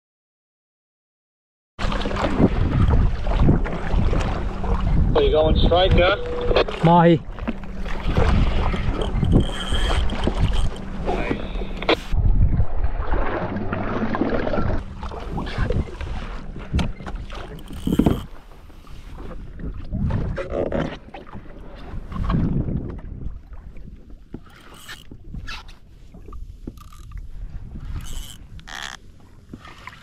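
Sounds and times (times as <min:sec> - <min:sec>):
water splashing against kayak hull: 0:01.8 - 0:30.0
wind on microphone: 0:01.8 - 0:30.0.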